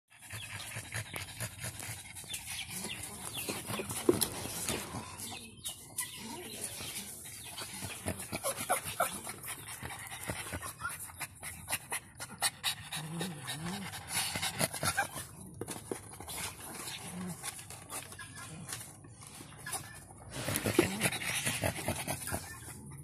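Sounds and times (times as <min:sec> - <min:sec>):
small dogs panting and whining: 0:00.1 - 0:23.0.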